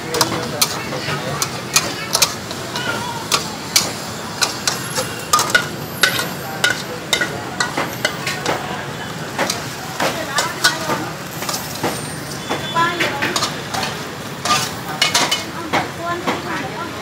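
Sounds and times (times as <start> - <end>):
metal spatula scraping wok: 0.0 - 16.0
food sizzling: 0.0 - 17.0.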